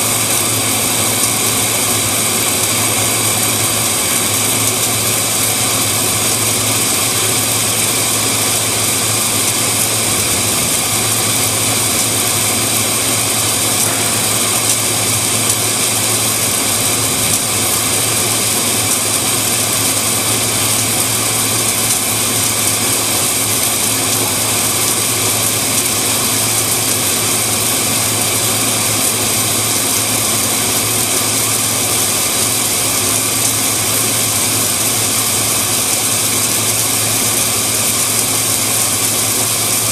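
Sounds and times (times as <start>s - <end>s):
low electrical hum: 0.0s - 39.9s
steady rushing hiss: 0.0s - 39.9s.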